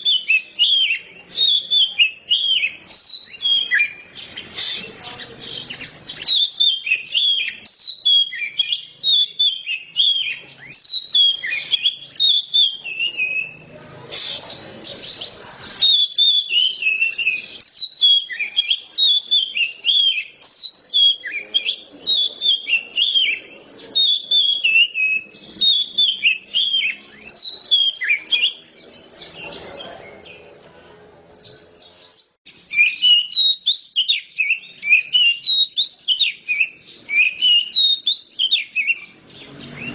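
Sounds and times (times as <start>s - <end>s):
bird singing chirping phrases: 0.0s - 39.9s.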